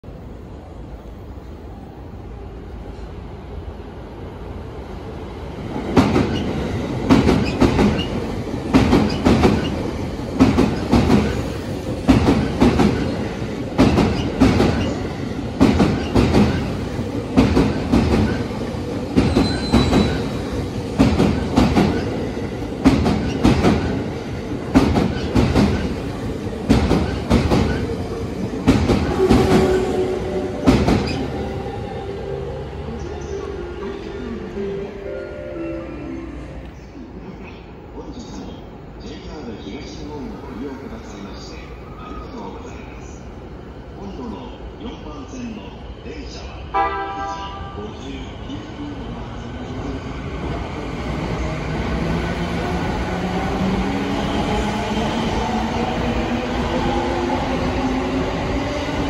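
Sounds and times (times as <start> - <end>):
electric train passing: 0.1 - 39.0, 45.6 - 59.0.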